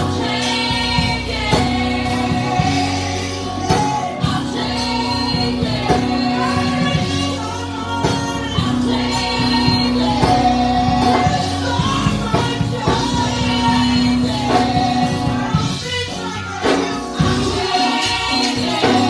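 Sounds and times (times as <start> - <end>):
band playing gospel music: 0.0 - 19.0.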